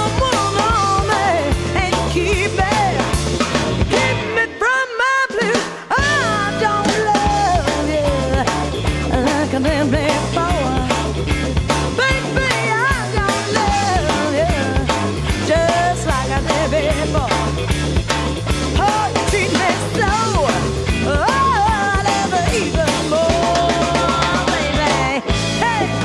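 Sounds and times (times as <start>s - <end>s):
bass: 0.0s - 4.7s, 5.5s - 26.0s
sliding lead guitar line: 0.0s - 4.8s, 5.9s - 26.0s
blues-rock band playing: 0.0s - 26.0s
drums: 0.0s - 26.0s.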